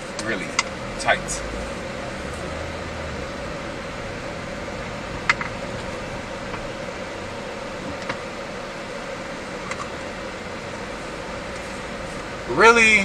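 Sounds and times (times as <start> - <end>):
engine and fan hum: 0.0 - 13.0.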